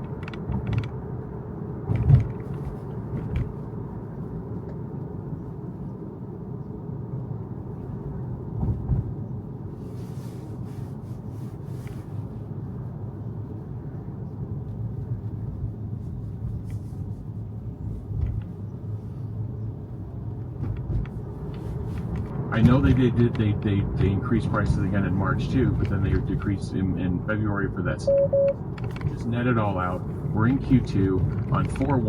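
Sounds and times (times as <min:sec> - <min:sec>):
road and tyre rumble in car: 0:00.0 - 0:32.0.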